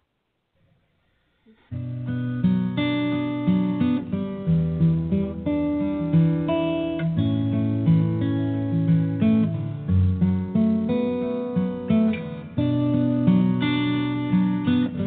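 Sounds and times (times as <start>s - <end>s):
acoustic guitar picking and strumming: 1.6s - 15.0s.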